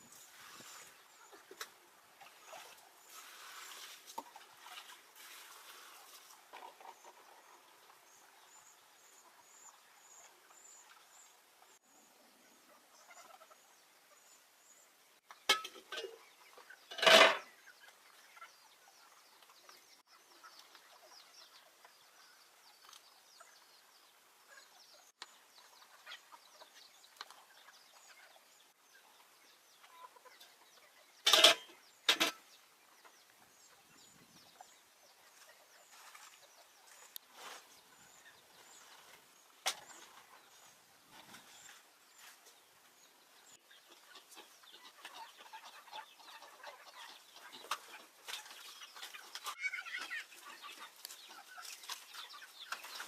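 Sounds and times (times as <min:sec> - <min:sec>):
chickens calling: 0:00.0 - 0:14.6, 0:15.2 - 0:53.0.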